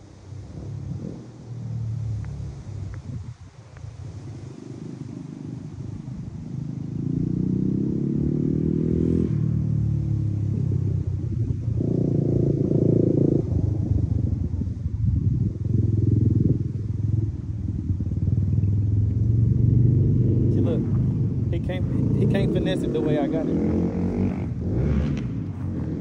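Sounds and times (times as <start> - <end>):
vehicle engine accelerating: 0.0 - 3.4, 4.0 - 26.0.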